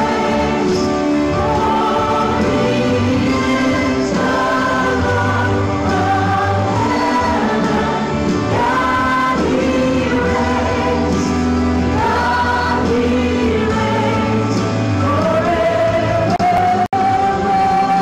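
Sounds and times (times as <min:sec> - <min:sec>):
band accompaniment: 0:00.0 - 0:18.0
women singing gospel song: 0:00.0 - 0:18.0.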